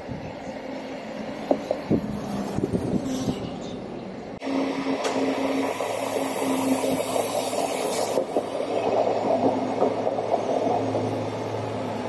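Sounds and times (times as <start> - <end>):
low locomotive engine hum: 0.0 - 12.0
train coaches rumbling on rails: 0.0 - 12.0.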